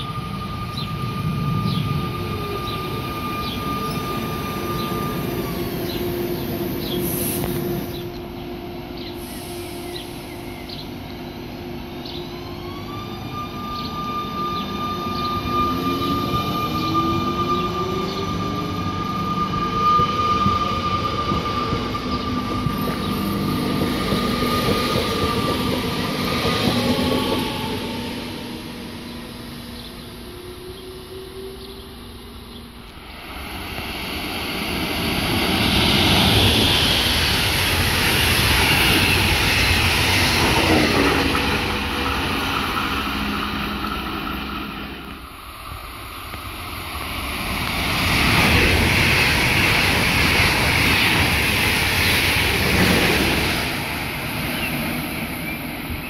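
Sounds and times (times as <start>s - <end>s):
high-speed train approaching: 0.0s - 56.0s
train wheels rumbling: 0.0s - 56.0s.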